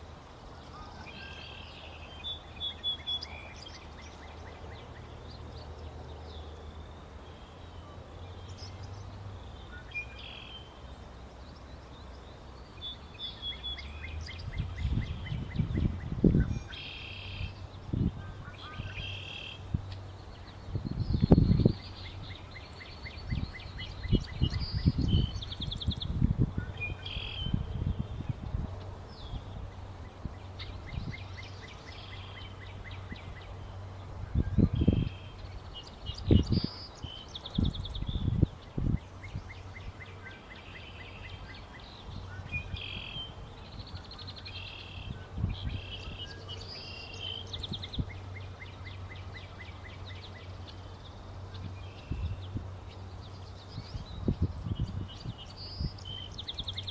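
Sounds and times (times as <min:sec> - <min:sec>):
songbirds singing and calling: 0:00.0 - 0:56.9.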